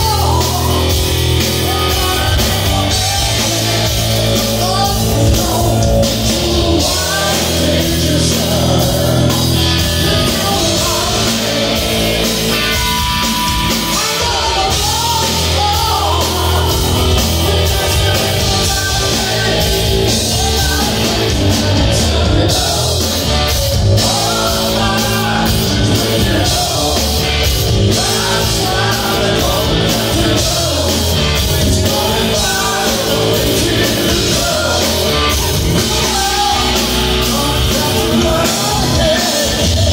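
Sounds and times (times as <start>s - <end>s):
distorted electric guitar: 0.0s - 39.9s
drum kit: 0.0s - 39.9s
electric bass: 0.0s - 39.9s
man singing: 0.0s - 39.9s.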